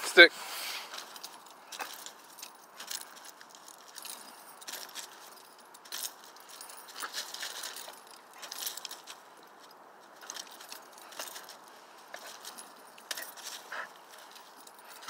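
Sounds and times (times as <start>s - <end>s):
harness metal jingling: 0.8s - 15.0s.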